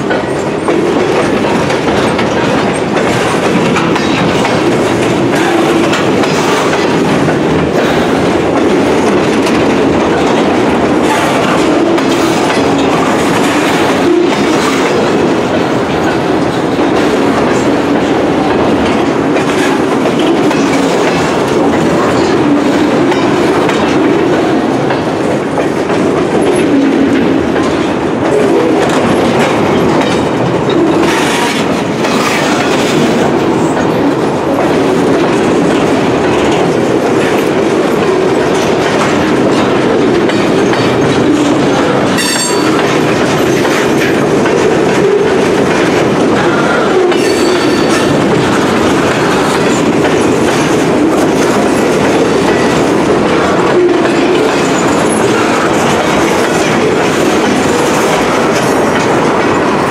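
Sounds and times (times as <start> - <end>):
freight train rumbling: 0.0 - 59.9
wheels clacking over rail: 0.0 - 59.9.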